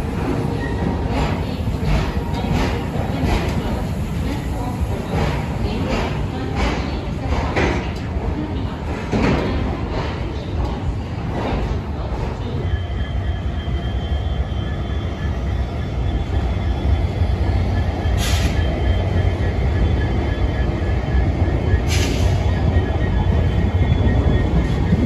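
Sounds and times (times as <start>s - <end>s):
train coaches rumbling on rails: 0.0s - 25.0s.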